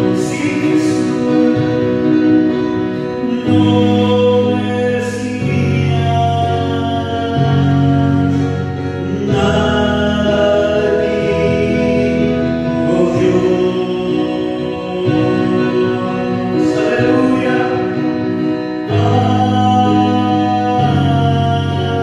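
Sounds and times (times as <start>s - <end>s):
electronic keyboard chords: 0.0s - 22.0s
man singing: 0.0s - 22.0s.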